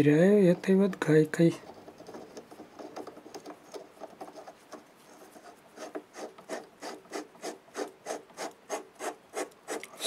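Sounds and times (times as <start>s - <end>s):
metal nut scraping on thread: 1.5s - 10.0s.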